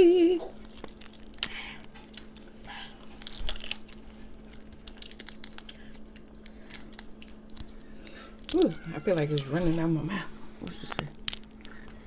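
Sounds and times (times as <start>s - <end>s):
shells cracking and crinkling: 0.5s - 9.9s, 10.7s - 12.0s.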